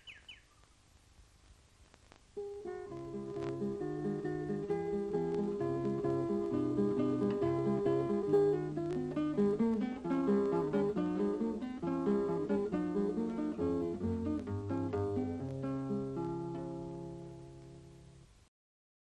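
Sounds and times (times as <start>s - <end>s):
acoustic guitar music: 2.4s - 18.3s.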